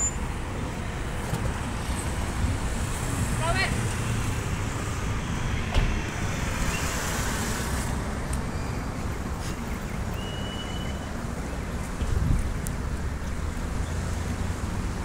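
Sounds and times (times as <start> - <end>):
passing cars rumble: 0.0 - 15.0.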